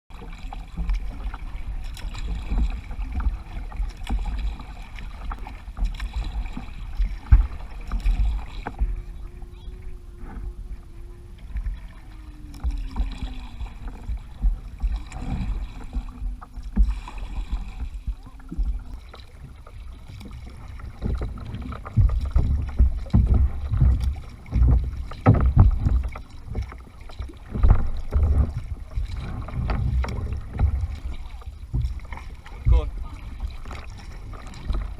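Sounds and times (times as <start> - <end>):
paddle knocking against hull: 0.1 - 34.9
paddle strokes splashing: 0.1 - 34.9
low rumble: 0.6 - 34.9.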